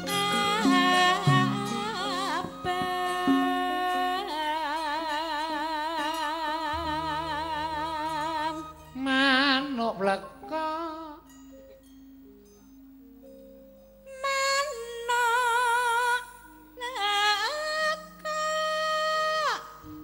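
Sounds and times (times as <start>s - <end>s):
woman singing with vibrato: 0.0s - 11.3s, 14.1s - 19.8s
gamelan accompaniment: 0.0s - 20.0s.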